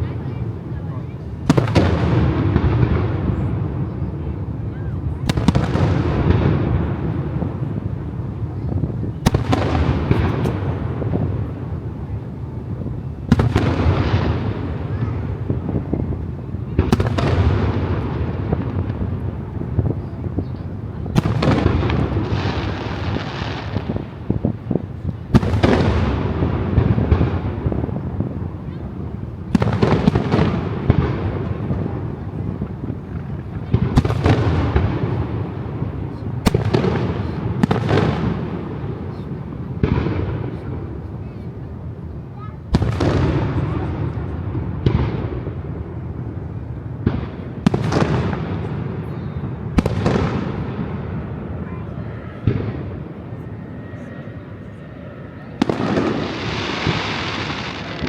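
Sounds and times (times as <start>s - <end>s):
fireworks booming: 0.0s - 58.0s
low rumble of distant bursts: 0.0s - 58.0s.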